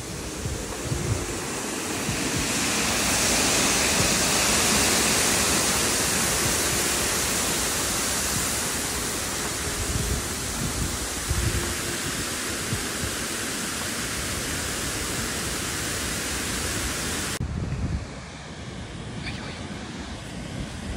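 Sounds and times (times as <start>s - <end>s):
water rushing over weir: 0.0s - 17.4s.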